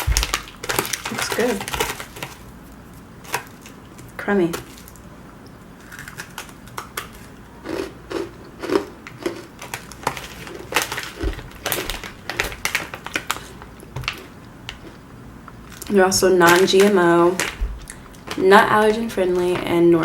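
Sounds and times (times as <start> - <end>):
cookies crunching when chewed: 0.0 - 5.1, 5.8 - 19.6.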